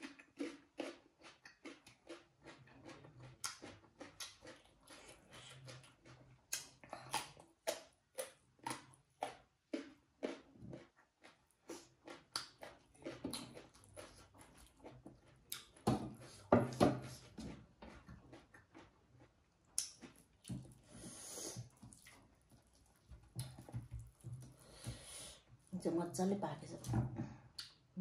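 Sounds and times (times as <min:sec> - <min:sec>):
chewing and lip-smacking: 0:00.0 - 0:16.5, 0:17.1 - 0:20.9, 0:21.6 - 0:24.6.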